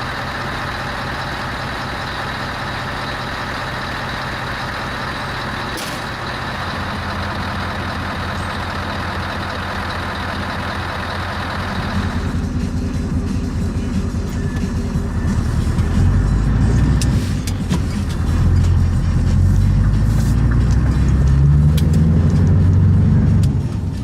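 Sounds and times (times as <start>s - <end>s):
truck diesel engine idling: 0.0s - 24.0s.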